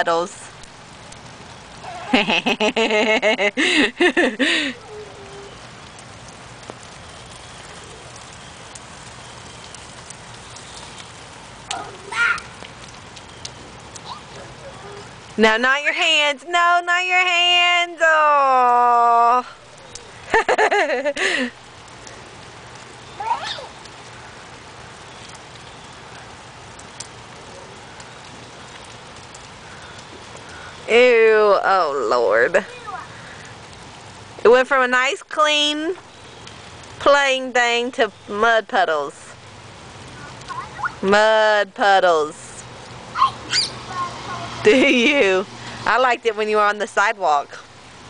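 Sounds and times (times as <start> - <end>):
faint drips: 0.0 - 17.8, 18.5 - 48.0
steady rain falling: 0.0 - 48.0.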